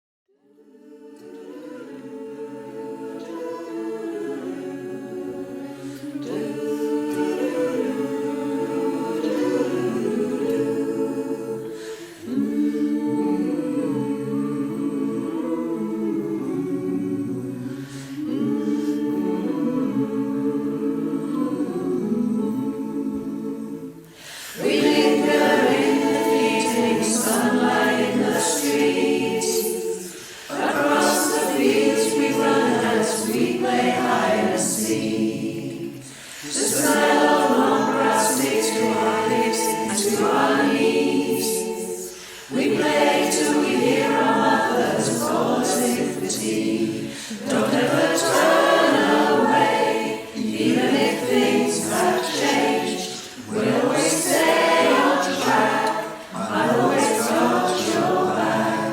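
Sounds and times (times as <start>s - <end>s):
choir singing in harmony: 0.3s - 58.9s.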